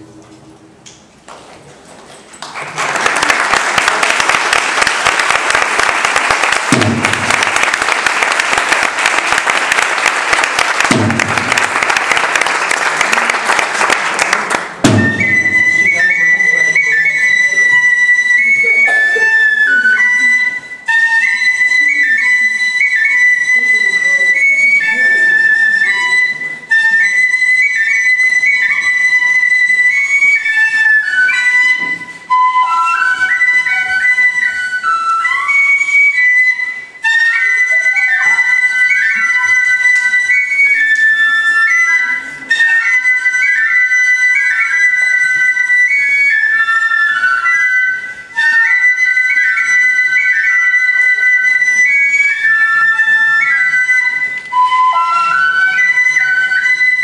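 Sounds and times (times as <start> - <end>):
transverse flute melody: 3.1 - 57.0.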